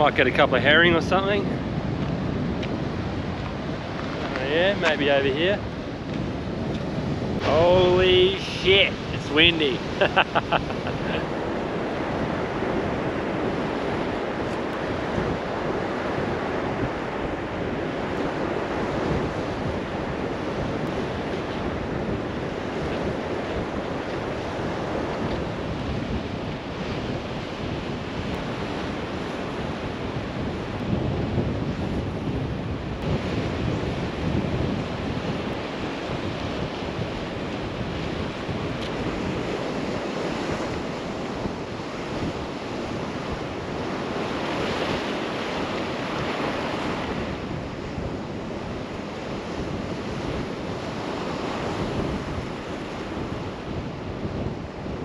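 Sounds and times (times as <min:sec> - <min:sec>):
surf washing over rocks: 0:00.0 - 0:55.0
wind buffeting microphone: 0:00.0 - 0:55.0.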